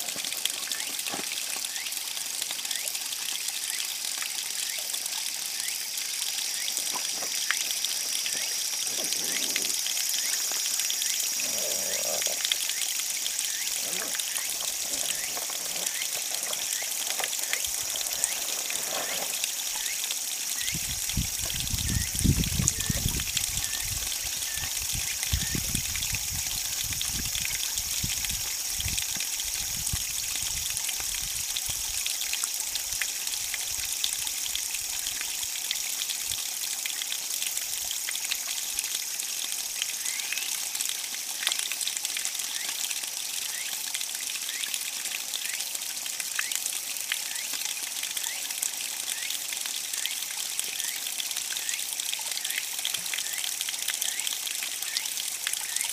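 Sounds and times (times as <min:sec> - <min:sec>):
cicadas droning: 0:00.0 - 0:30.9, 0:33.8 - 0:55.9
small waterfall splashing: 0:00.0 - 0:55.9.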